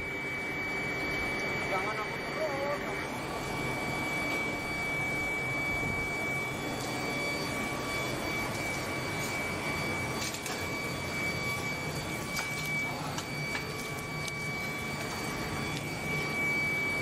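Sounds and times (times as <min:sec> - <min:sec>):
machine drone with whine: 0:00.0 - 0:17.0.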